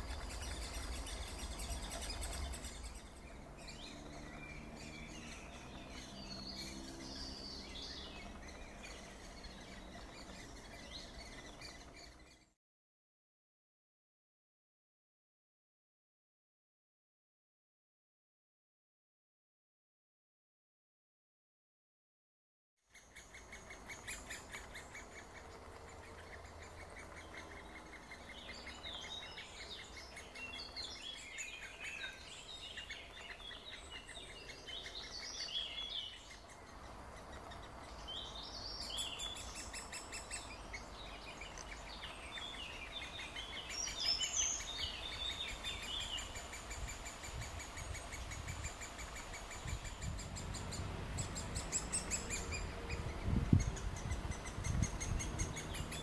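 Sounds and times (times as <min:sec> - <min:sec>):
high twittering calls: 0:00.0 - 0:12.5, 0:22.9 - 0:56.0.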